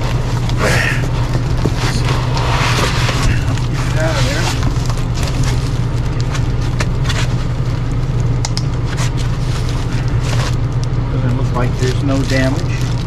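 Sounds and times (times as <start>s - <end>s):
foam and plastic rustling: 0.0s - 13.0s
steady low hum: 0.0s - 13.0s.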